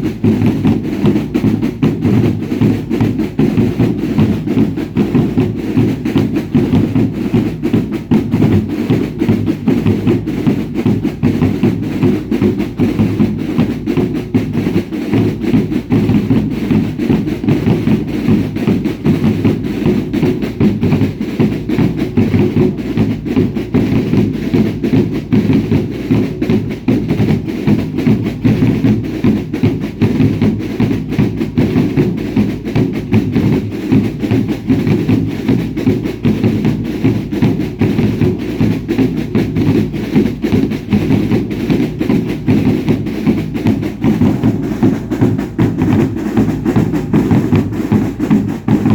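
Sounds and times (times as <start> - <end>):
drums beating: 0.0 - 48.9.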